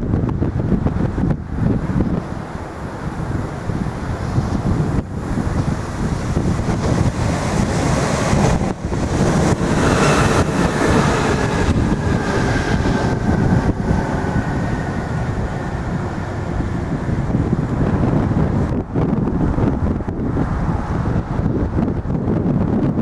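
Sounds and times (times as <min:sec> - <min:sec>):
electric train passing: 0:00.0 - 0:22.4
wind buffeting microphone: 0:00.0 - 0:23.0
faint train whine: 0:00.7 - 0:21.3.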